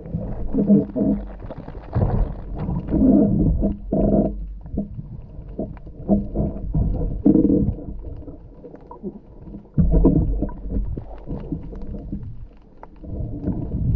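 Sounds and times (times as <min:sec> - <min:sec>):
underwater water bubbling: 0:00.0 - 0:13.9
faint clicks: 0:00.5 - 0:13.9.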